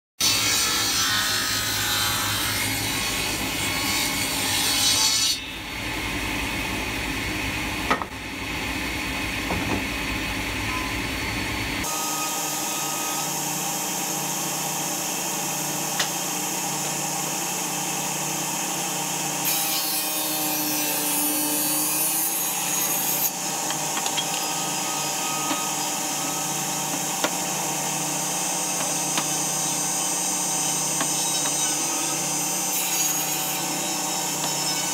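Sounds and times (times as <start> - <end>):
table saw cutting wood: 0.2 - 34.9.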